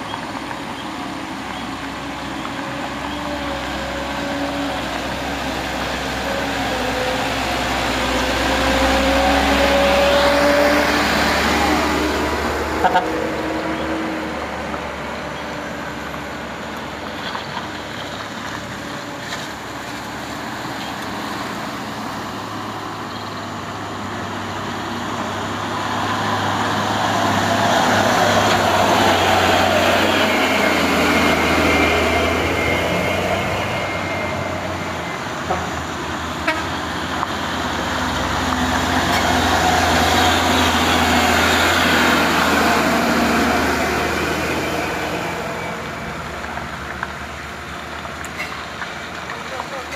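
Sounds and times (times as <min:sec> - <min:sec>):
diesel truck passing close: 0:00.0 - 0:49.9.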